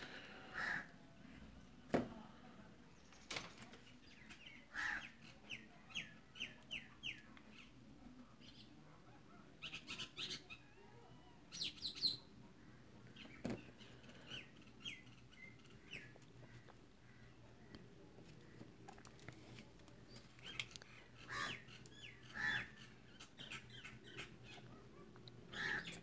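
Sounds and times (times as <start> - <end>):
birds chirping: 2.8 - 26.0.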